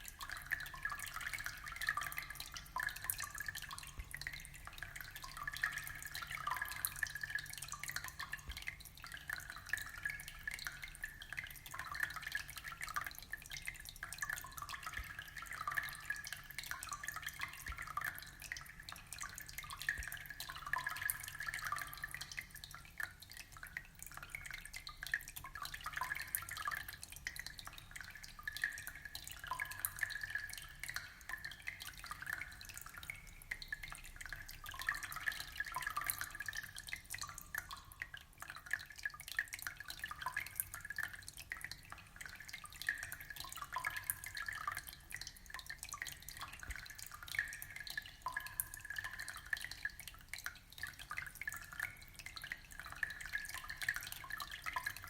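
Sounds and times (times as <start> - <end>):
aquarium water trickling and dripping: 0.0 - 55.0.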